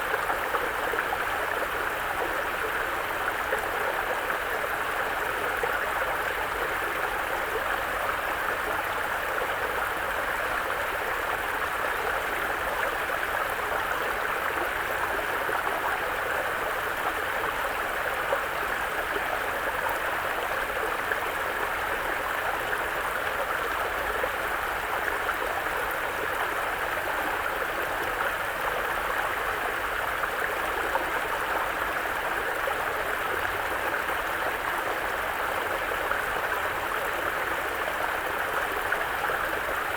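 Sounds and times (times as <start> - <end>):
brook flowing over rocks: 0.0 - 39.9.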